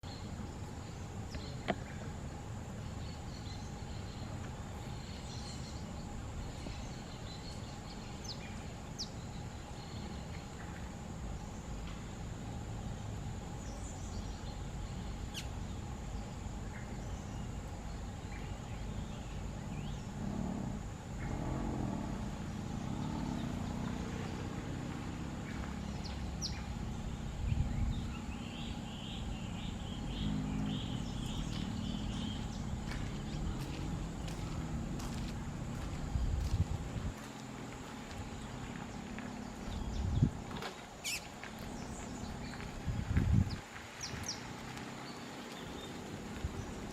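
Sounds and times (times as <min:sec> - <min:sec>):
steady low rumble: 0:00.1 - 0:40.6, 0:41.3 - 0:44.7.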